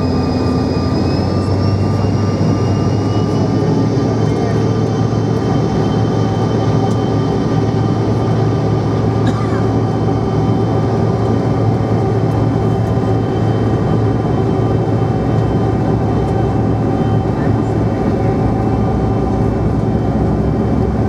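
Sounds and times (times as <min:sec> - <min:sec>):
jet engine drone in cabin: 0:00.0 - 0:21.0.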